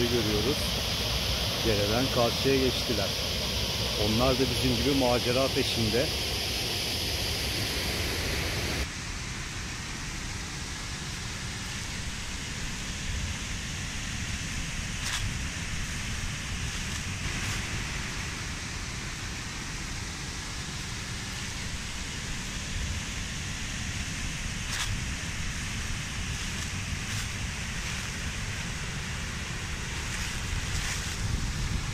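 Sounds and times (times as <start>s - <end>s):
stream and waterfall rushing: 0.0s - 31.9s
wind rumbling on microphone: 0.0s - 31.9s.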